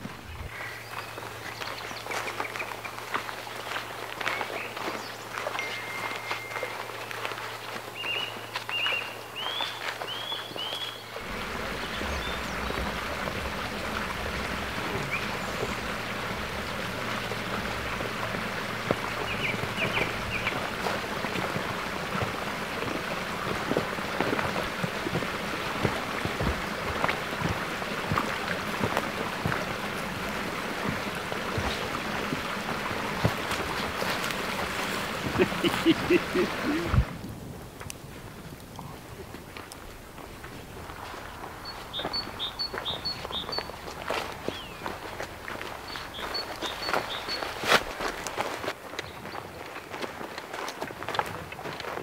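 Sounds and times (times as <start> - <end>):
running water rushing: 0.0 - 52.0.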